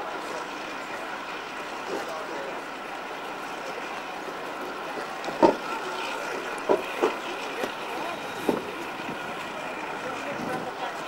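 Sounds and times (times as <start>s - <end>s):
locomotive engine humming: 0.0s - 11.0s.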